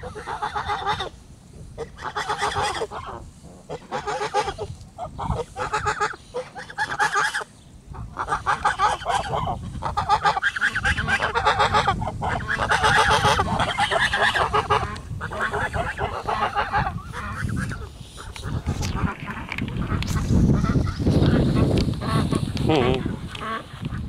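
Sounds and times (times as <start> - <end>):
ducks quacking: 0.0 - 1.2, 1.8 - 24.0.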